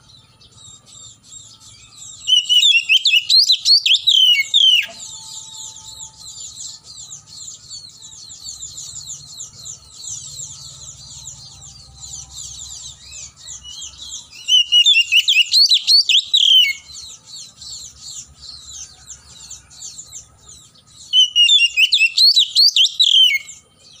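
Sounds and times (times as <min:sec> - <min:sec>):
bird singing whistled phrases: 0:00.0 - 0:18.8, 0:19.9 - 0:23.6.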